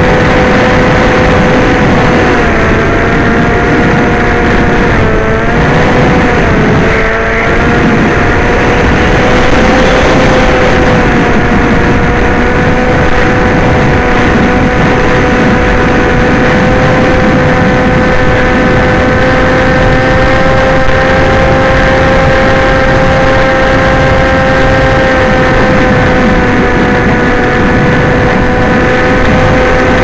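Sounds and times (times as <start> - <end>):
electric motor and propeller whine: 0.0 - 30.0
wind rush on microphone: 0.0 - 30.0.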